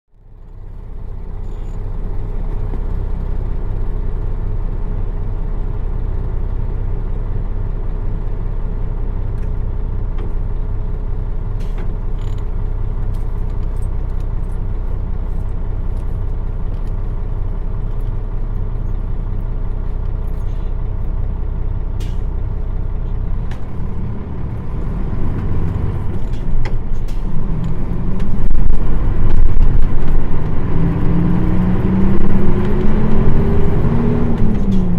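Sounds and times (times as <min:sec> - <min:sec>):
diesel bus engine idling: 0:00.1 - 0:34.9.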